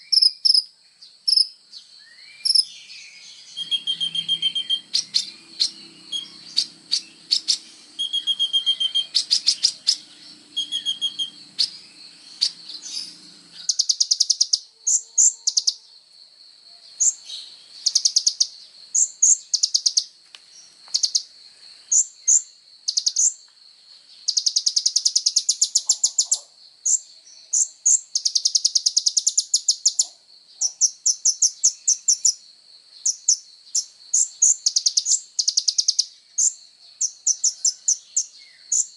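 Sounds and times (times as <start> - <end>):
bird trilling and chirping: 0.0 - 15.9, 16.9 - 21.3, 21.9 - 23.4, 24.2 - 32.4, 33.0 - 38.9.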